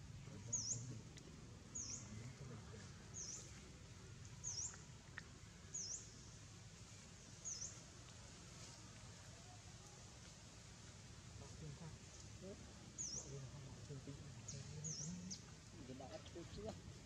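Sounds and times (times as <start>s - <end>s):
faint low background noise: 0.0s - 17.0s.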